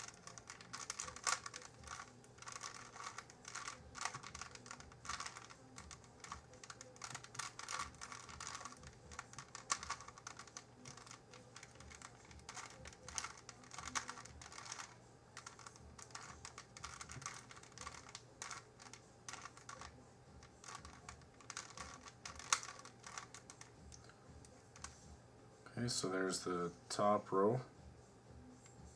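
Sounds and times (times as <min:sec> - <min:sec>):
puzzle cube plastic clicks: 0:00.0 - 0:23.7.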